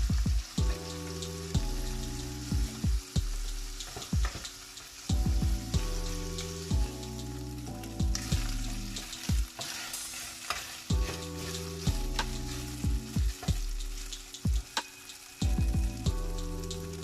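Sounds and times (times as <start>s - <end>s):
background music with low notes: 0.0s - 17.0s
chicken sizzling in a pan: 0.0s - 17.0s.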